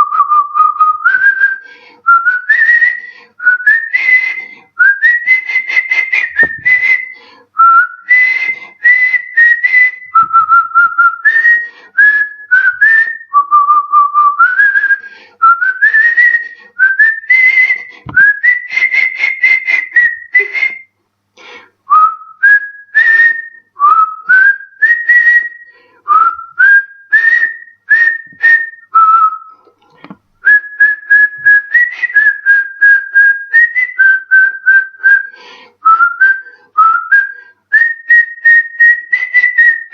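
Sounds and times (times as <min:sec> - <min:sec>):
man whistling a melody: 0:00.0 - 0:21.0, 0:21.9 - 0:29.7, 0:30.4 - 0:39.9.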